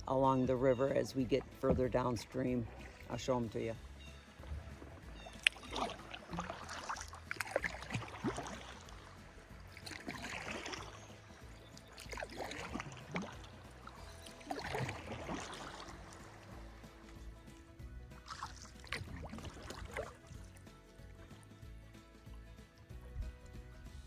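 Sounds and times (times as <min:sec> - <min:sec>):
water dripping: 0:00.0 - 0:22.5
paddle splashing in water: 0:00.0 - 0:23.0.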